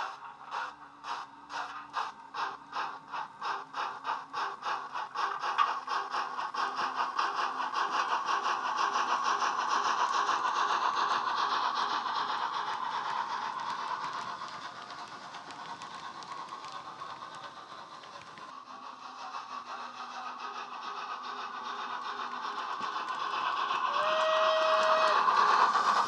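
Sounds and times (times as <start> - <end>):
steam locomotive chuffing from speaker: 0.0 - 26.0.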